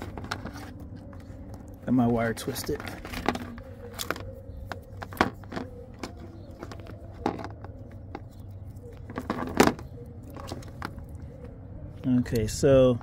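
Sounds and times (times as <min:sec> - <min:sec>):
wire clicking and rubbing on plastic: 0:00.0 - 0:11.6.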